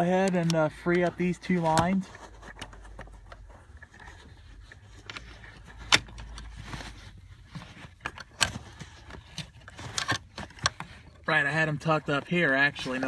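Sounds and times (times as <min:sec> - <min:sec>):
wires rustling and scraping: 0:00.0 - 0:13.0.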